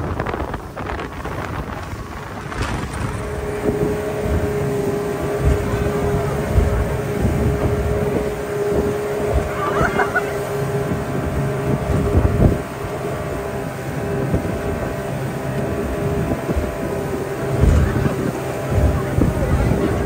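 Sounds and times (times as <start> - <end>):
outboard motor whining: 0.0 - 20.0
rush of boat wake: 0.0 - 20.0
wind on microphone: 0.0 - 20.0.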